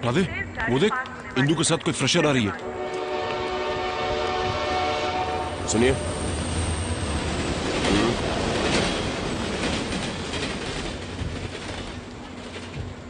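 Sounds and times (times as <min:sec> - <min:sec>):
train wheels rumbling on rails: 0:02.5 - 0:13.0.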